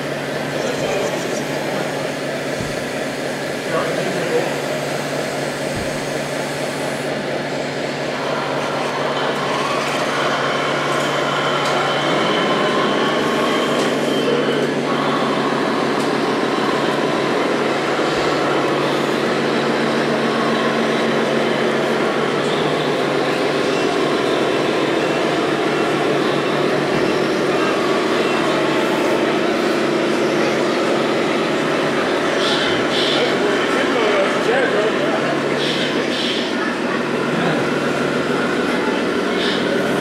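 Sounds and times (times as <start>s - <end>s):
model forklift engine sound droning: 0.0s - 40.0s.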